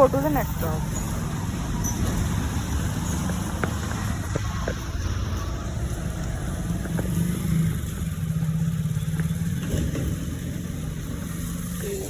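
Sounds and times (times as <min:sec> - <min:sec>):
scooter engine humming: 0:00.0 - 0:12.0.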